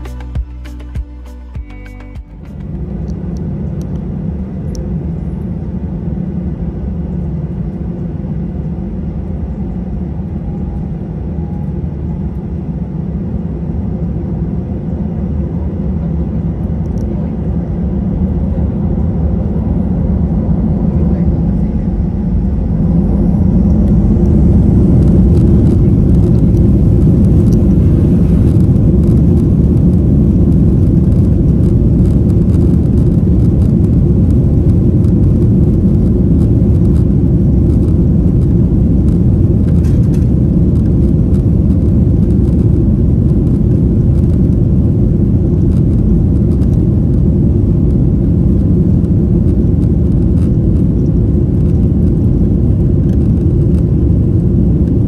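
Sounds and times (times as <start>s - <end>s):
airplane cabin low rumble: 0.0s - 55.0s.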